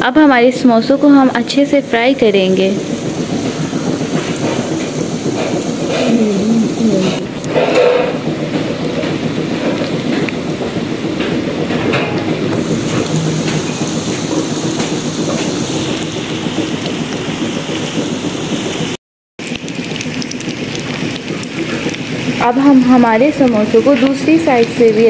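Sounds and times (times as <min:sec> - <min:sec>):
oil sizzling and crackling: 0:01.5 - 0:11.2, 0:12.5 - 0:25.0.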